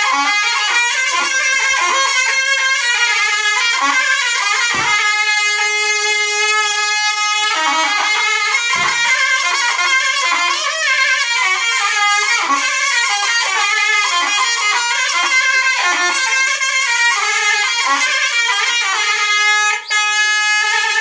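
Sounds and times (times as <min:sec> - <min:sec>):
reed woodwind melody: 0:00.0 - 0:21.0.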